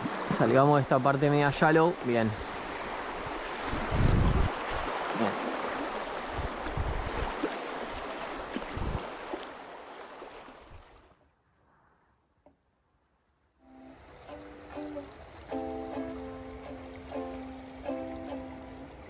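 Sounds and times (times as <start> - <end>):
river water rushing and splashing: 0.0 - 11.1, 13.7 - 19.0.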